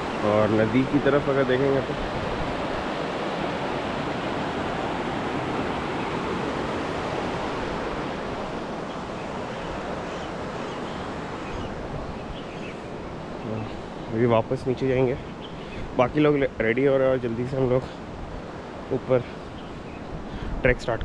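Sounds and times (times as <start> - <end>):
mountain river rushing: 0.0 - 21.0.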